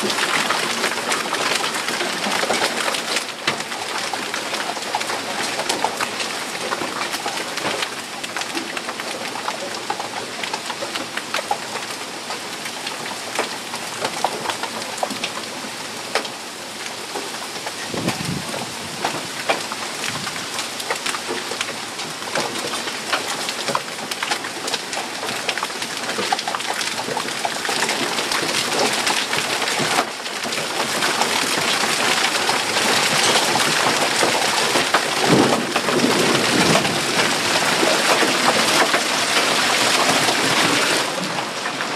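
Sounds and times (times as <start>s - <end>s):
hailstones ticking: 0.0s - 41.9s
heavy rain: 0.0s - 41.9s.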